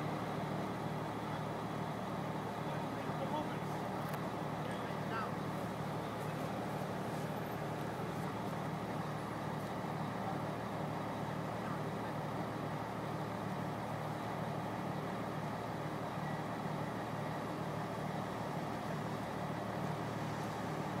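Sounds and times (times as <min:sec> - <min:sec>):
crane engine droning: 0:00.0 - 0:21.0.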